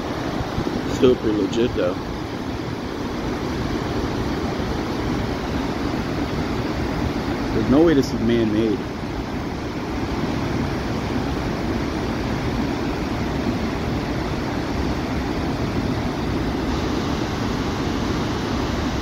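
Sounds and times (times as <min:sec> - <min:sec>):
churning whitewater: 0:00.0 - 0:19.0
waterfall rushing: 0:00.0 - 0:19.0.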